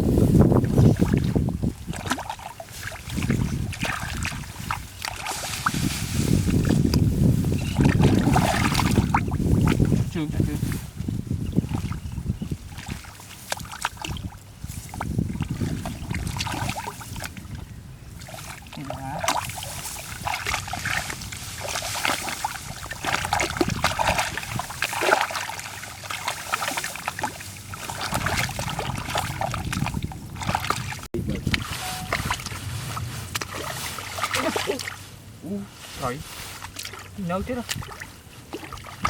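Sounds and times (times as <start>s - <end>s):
muddy water splashing: 0.0s - 39.0s.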